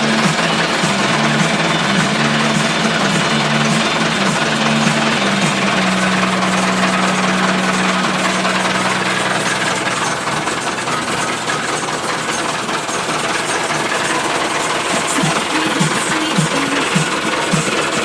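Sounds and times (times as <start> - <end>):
steady hum: 0.0 - 18.0
tractor diesel engine running: 0.0 - 18.0.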